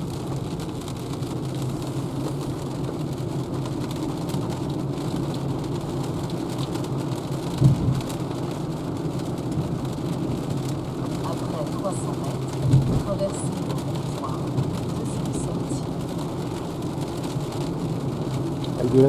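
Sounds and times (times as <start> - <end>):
car road noise on wet road: 0.0 - 19.0
rain: 0.0 - 19.0.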